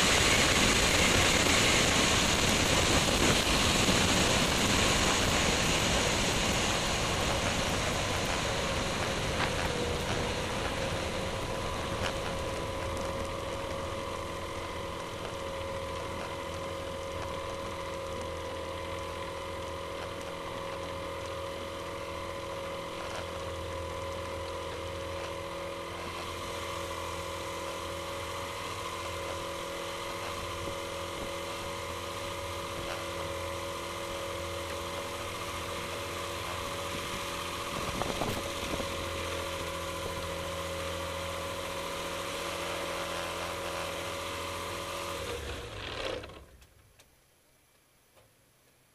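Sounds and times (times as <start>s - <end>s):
propeller aircraft engine drone: 0.0s - 48.1s.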